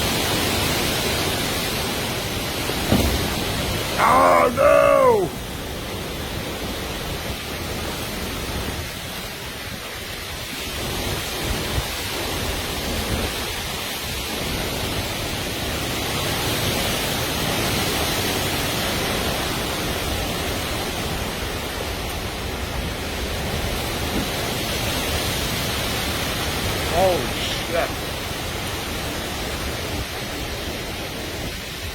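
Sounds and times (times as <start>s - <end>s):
heavy rain: 0.0s - 31.9s
storm wind: 0.0s - 31.9s
wind gusts buffeting microphone: 5.2s - 31.9s.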